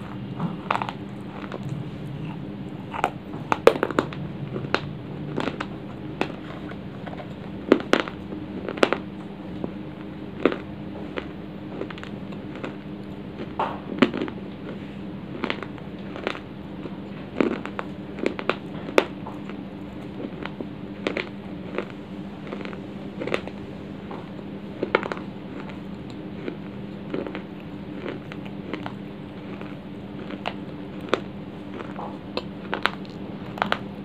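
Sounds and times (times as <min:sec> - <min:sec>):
crunching of chewing clay: 0:00.0 - 0:34.0
low hum: 0:00.0 - 0:34.0.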